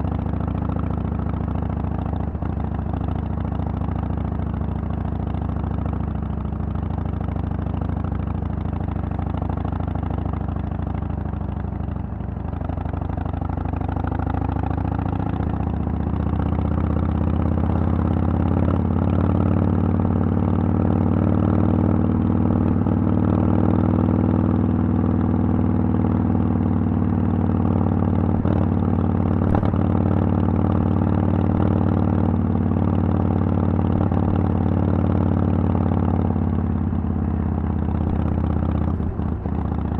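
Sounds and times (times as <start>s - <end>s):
v-twin motorcycle engine running: 0.0s - 39.9s.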